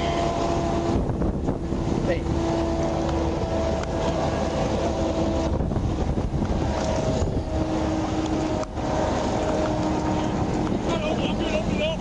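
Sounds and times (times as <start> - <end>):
highway traffic: 0.0 - 12.0
wind rumbling on microphone: 0.0 - 12.0.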